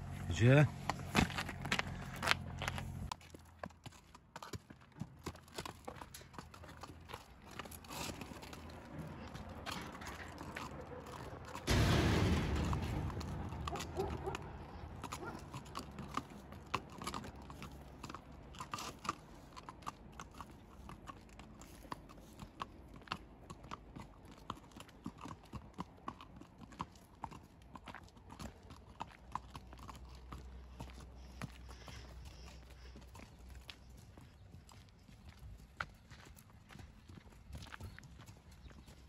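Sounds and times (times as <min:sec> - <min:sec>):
hooves clopping on concrete: 0:00.0 - 0:39.0.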